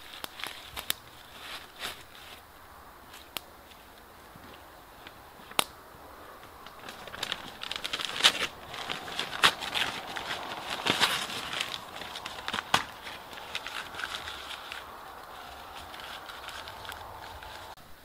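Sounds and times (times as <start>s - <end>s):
twigs crackling and snapping: 0.0s - 17.8s.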